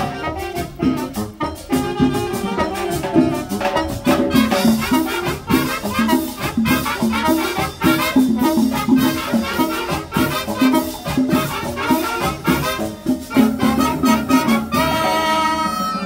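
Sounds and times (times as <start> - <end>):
marching band playing salsa: 0.0 - 16.0.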